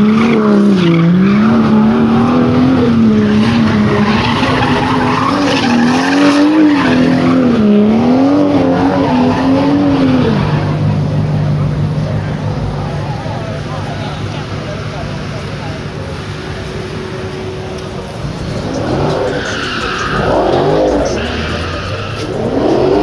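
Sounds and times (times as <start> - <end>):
tyres spinning and squealing: 0.0 - 11.2, 11.9 - 23.0
car engine revving: 0.0 - 23.0.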